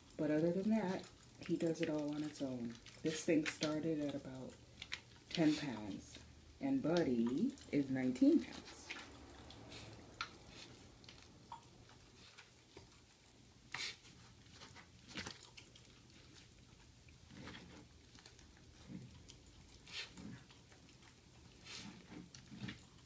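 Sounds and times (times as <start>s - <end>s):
dog gnawing meat: 0.0s - 23.0s.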